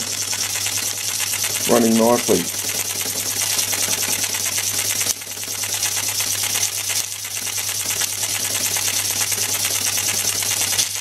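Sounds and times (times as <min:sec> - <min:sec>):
steady low hum: 0:00.0 - 0:10.9
model steam engine ticking: 0:00.0 - 0:11.0.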